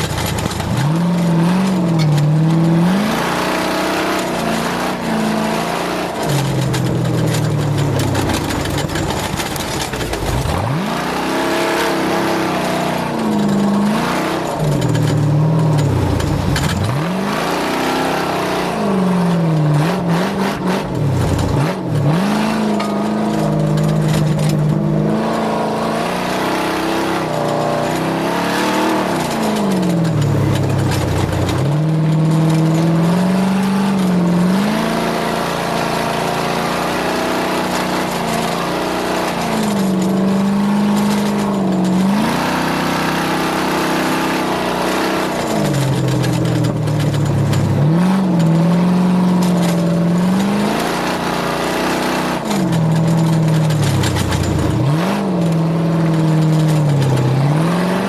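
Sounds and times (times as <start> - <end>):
racing engine revving: 0.0 - 58.0.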